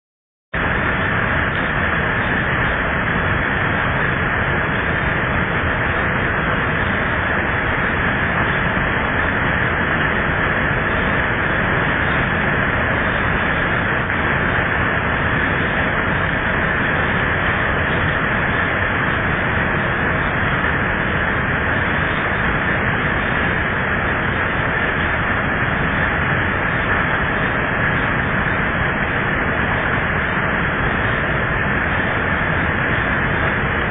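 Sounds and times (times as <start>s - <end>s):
heavy rain pouring off roof: 0.6s - 33.9s.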